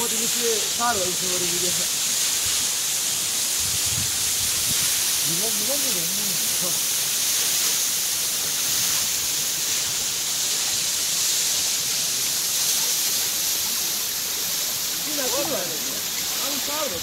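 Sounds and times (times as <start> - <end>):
waterfall rushing hiss: 0.0 - 17.0.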